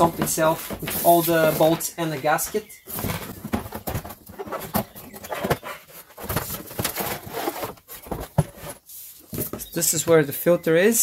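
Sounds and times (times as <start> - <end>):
cardboard and paper rustling: 0.0 - 10.2.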